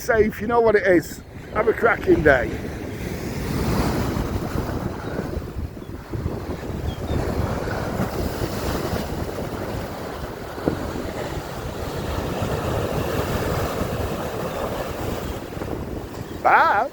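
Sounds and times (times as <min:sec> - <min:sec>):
sea waves breaking: 0:00.0 - 0:16.9
wind buffeting microphone: 0:00.0 - 0:16.9.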